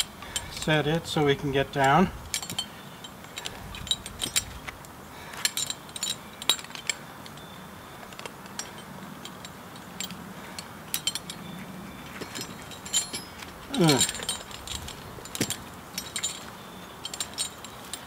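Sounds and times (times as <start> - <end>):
metal climbing hardware clinking: 0.0 - 18.0.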